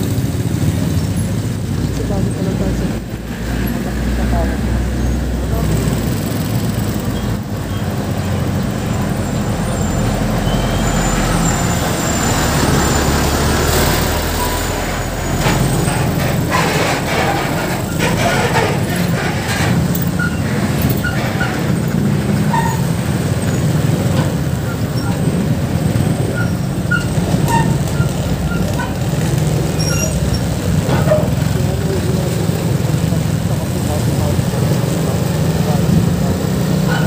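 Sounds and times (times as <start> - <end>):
motorcycle engine and road noise: 0.0 - 37.0.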